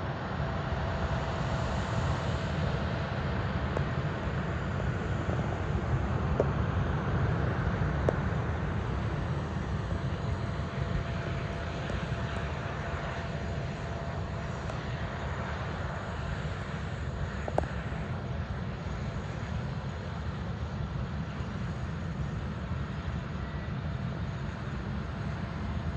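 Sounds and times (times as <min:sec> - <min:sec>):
jet engine running: 0:00.0 - 0:25.9.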